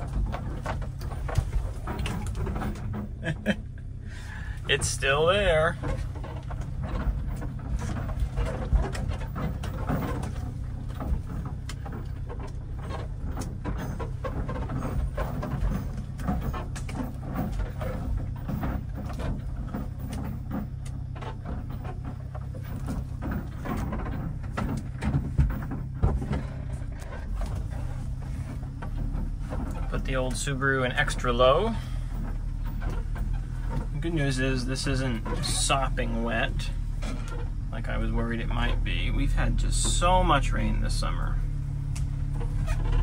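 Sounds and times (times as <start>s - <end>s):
knocks and rattles of truck: 0.0s - 43.0s
truck engine running at low speed: 0.0s - 43.0s.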